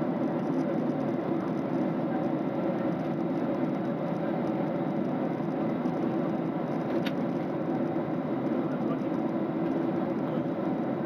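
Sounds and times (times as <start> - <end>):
airliner cabin noise: 0.0 - 11.0.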